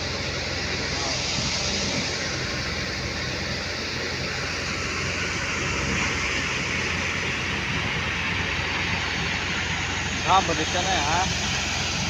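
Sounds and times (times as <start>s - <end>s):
thresher machine drone: 0.0s - 12.0s.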